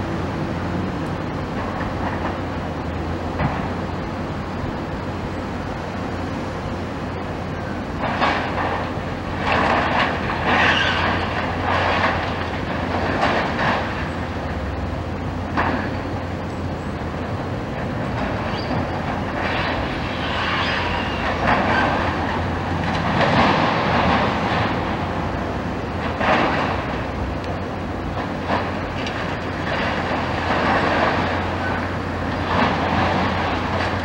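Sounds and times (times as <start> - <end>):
excavator engine hum: 0.0 - 34.0.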